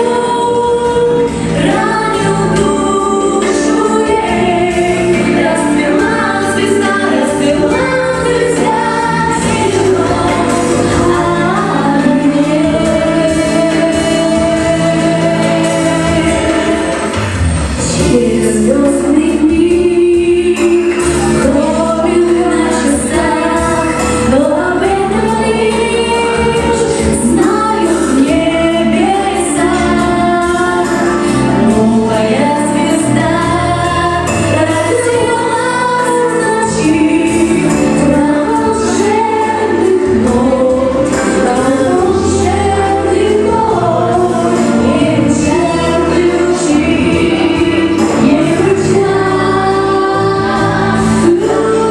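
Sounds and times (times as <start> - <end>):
song with voices singing: 0.0 - 51.9.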